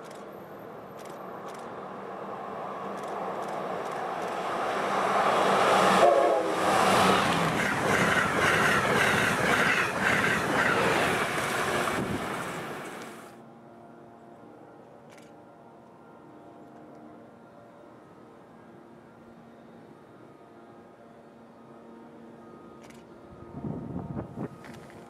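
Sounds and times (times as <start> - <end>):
train passing at high speed: 0.0 - 25.0.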